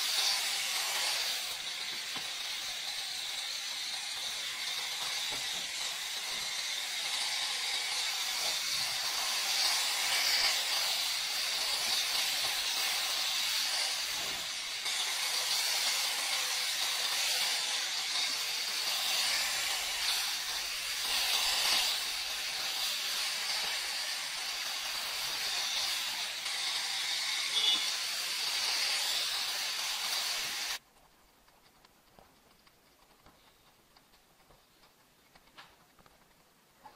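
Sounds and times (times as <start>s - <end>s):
pressure washer jet hissing: 0.0s - 30.8s.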